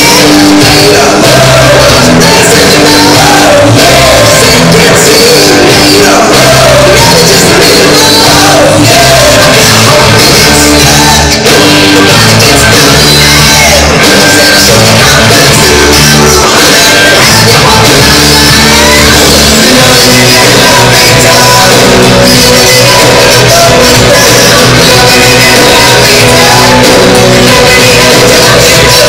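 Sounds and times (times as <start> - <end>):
loud rock music with singing: 0.0 - 29.0.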